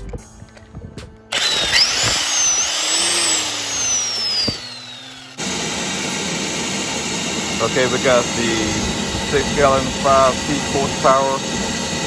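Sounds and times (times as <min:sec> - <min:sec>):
electric impact wrench motor whining: 0:01.3 - 0:12.0
steady machine hum: 0:01.3 - 0:12.0.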